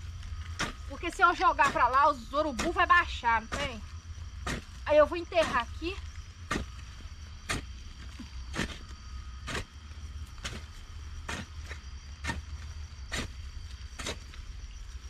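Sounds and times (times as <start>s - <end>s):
hand tool striking dirt: 0.2s - 3.8s, 4.4s - 4.8s, 5.4s - 14.5s.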